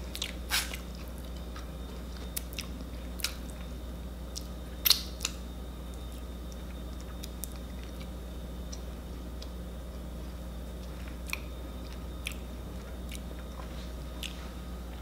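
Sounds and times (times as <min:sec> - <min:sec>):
person chewing cookie: 0:00.0 - 0:15.0.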